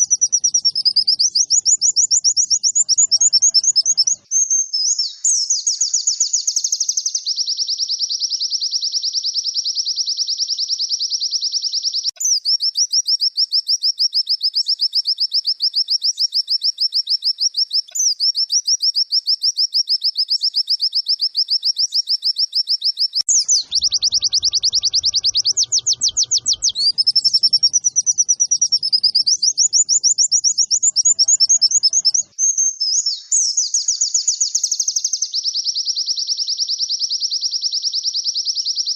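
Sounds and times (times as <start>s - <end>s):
bird twittering trill: 0.0s - 38.9s.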